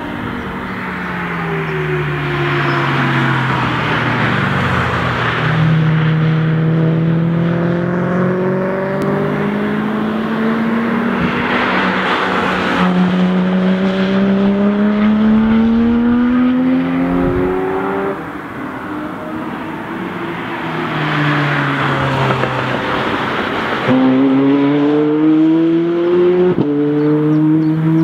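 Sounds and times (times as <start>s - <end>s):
sports cars accelerating past: 0.0s - 28.0s.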